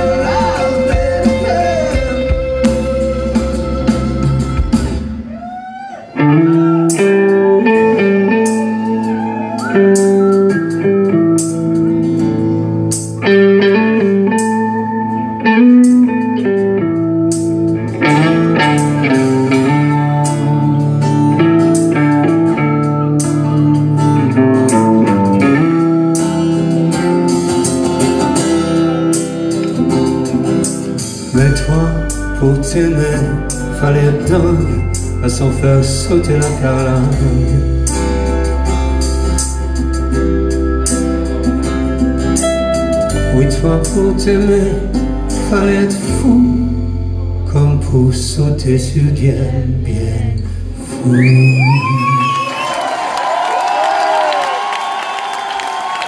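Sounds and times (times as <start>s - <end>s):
live band guitars playing: 0.0s - 56.0s.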